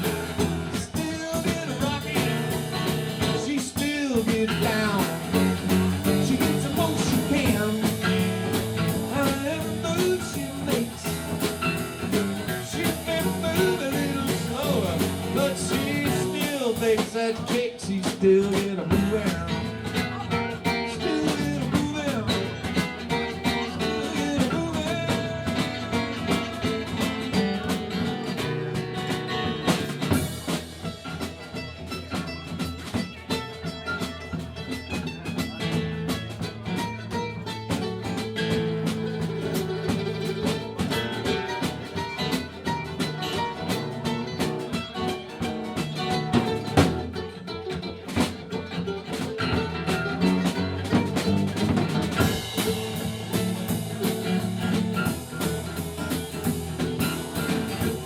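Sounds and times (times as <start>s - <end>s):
drum kit: 0.0s - 58.0s
guitar: 0.0s - 58.0s.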